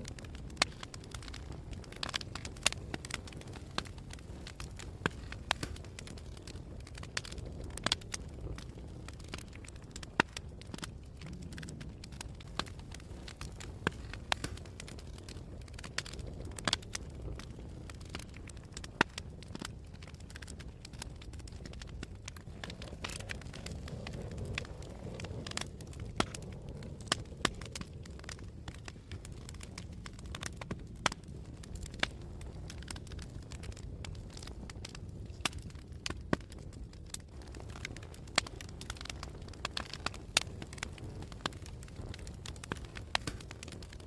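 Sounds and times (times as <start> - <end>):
fireplace fire crackling and popping: 0.0 - 44.0.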